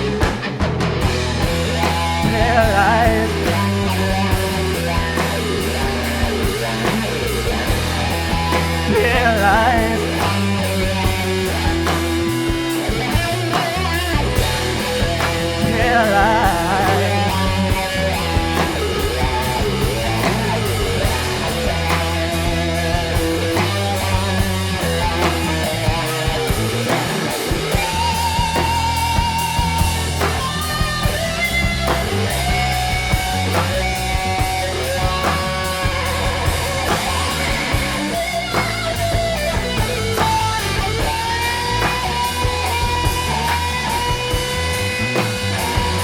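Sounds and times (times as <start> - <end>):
bass guitar: 0.0 - 46.0
drum kit steady beat: 0.0 - 46.0
electric guitar lead: 0.0 - 46.0.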